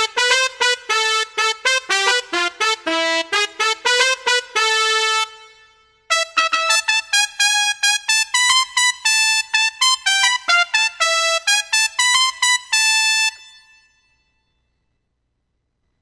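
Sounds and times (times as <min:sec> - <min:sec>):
keyboard brass notes: 0:00.0 - 0:14.0.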